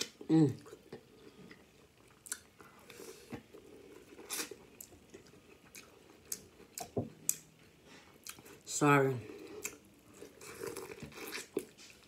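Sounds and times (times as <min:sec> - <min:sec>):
chewing corn on the cob: 0:00.0 - 0:07.5, 0:09.2 - 0:12.0.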